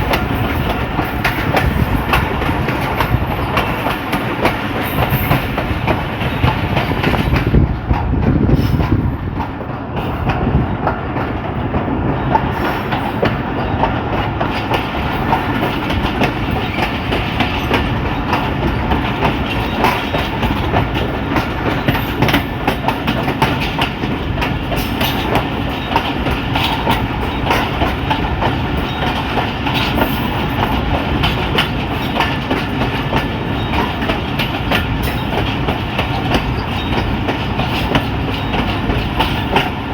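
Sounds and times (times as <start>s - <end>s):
train rumbling: 0.0s - 39.9s
wheels clacking over rails: 0.0s - 39.9s.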